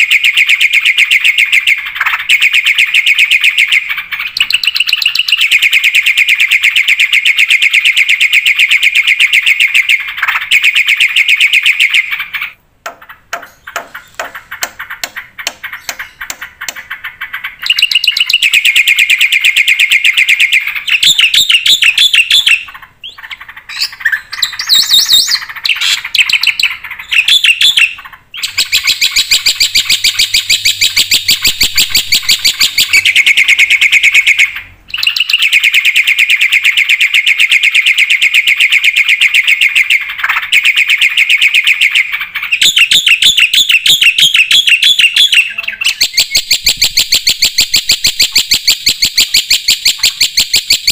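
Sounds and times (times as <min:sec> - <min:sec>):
starling singing: 0:00.0 - 0:50.9.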